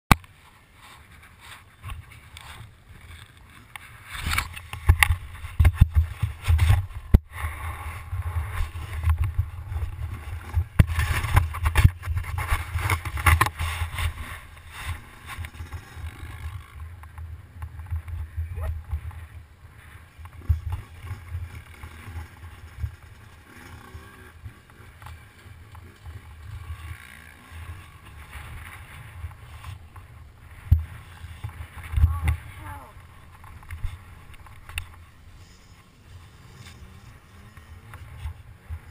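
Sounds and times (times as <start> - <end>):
muffled dirt bike rumble: 0.1 - 38.9.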